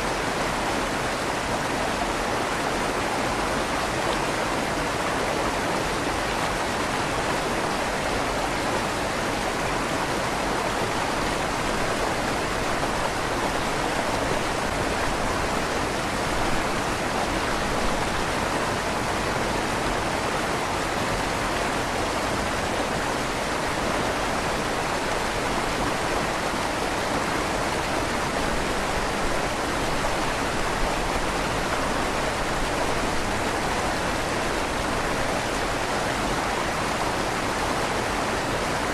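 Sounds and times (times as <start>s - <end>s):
river water rushing with echo: 0.0s - 38.9s.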